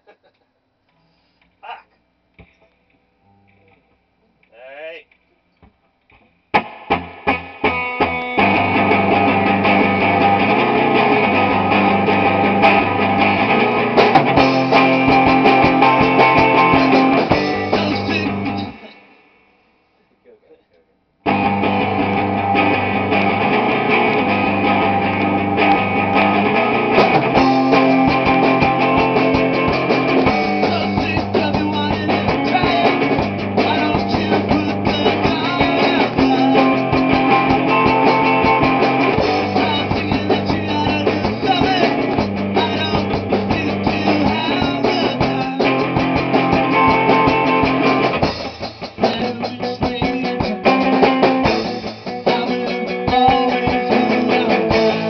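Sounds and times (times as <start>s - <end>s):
electric guitars: 6.1s - 19.5s, 21.2s - 55.0s
drum kit playing: 6.5s - 19.4s, 21.3s - 55.0s.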